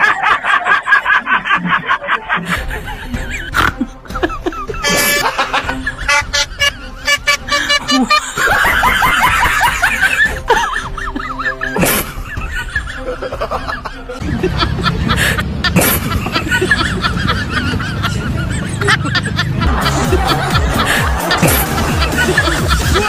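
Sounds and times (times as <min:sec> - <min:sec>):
background music: 0:00.0 - 0:23.0
honking cackling laughter: 0:00.0 - 0:23.0.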